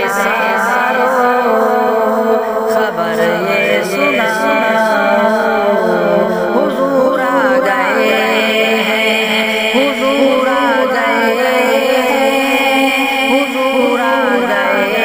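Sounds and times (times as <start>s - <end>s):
devotional singing: 0.0s - 15.0s
steady held drone: 0.0s - 15.0s.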